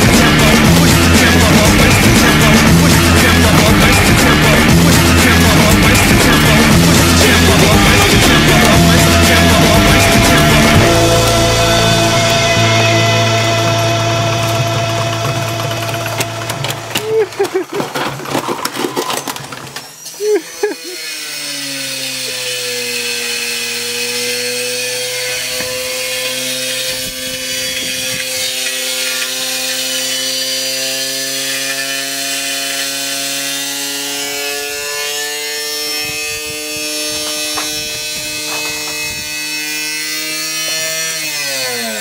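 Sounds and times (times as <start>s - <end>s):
washing machine motor whine: 0.0s - 17.7s, 22.7s - 42.0s.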